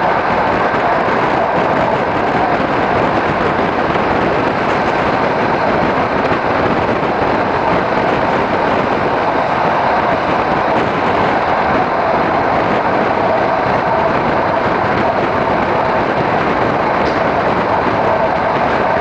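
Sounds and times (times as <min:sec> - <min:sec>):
train rushing along the line: 0:00.0 - 0:19.0.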